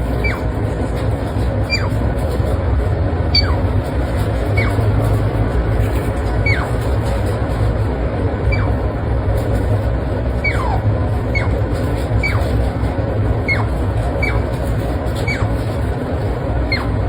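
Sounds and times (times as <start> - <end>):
otter squeaking: 0.0 - 17.0
steady low rumble: 0.0 - 17.0.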